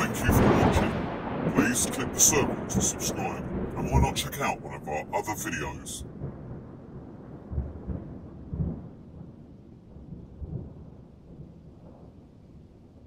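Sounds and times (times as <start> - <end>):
low rumbling: 0.0 - 13.0.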